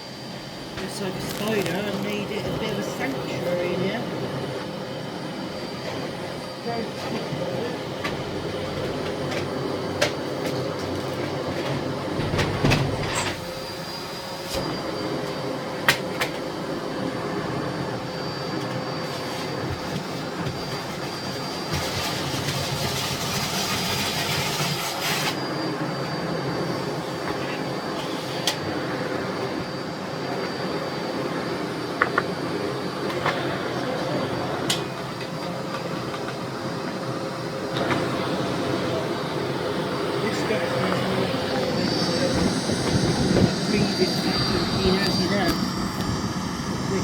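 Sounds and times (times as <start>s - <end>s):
vacuum cleaner motor whine: 0.0s - 47.0s.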